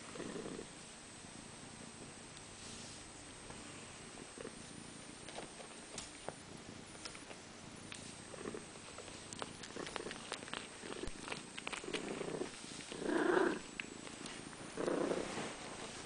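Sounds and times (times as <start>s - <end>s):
cat purring: 0.0s - 0.8s, 3.6s - 16.0s.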